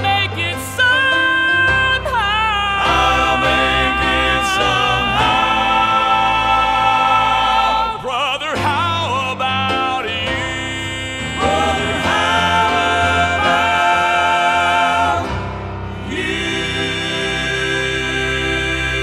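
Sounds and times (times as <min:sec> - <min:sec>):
male quartet singing in harmony: 0:00.0 - 0:19.0.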